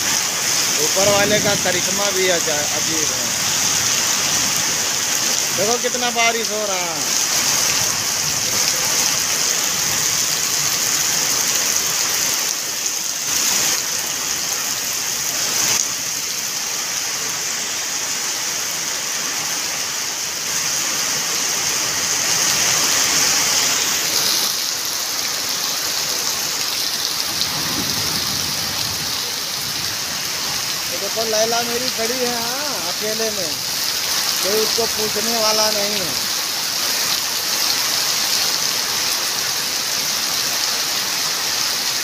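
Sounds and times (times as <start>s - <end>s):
heavy rain on puddled yard: 0.0s - 42.0s.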